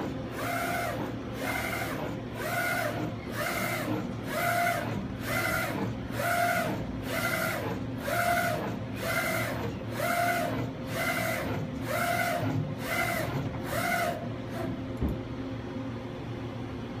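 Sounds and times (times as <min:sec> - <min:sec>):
print carriage motor whine: 0:00.0 - 0:15.6
low machine hum: 0:00.0 - 0:17.0.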